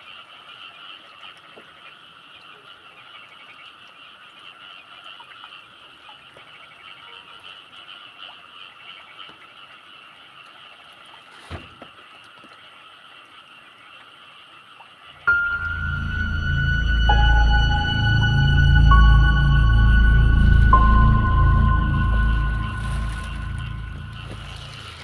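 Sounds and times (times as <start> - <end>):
frogs calling: 0.0 - 25.0.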